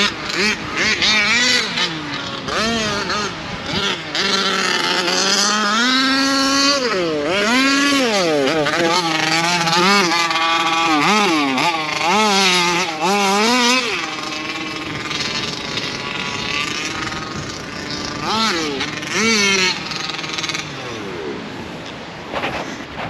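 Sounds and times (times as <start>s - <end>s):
small two-stroke engine revving: 0.0s - 23.0s.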